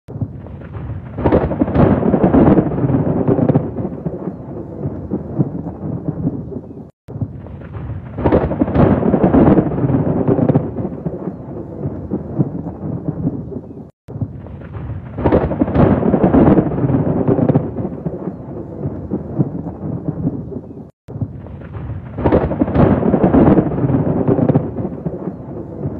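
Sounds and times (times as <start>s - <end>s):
thunder rolling: 0.1s - 25.9s
pouring rain: 0.2s - 25.9s.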